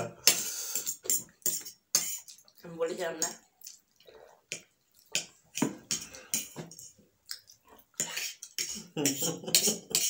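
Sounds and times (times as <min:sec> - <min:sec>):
people chewing and slurping noodles: 0:00.0 - 0:02.7, 0:03.4 - 0:10.0.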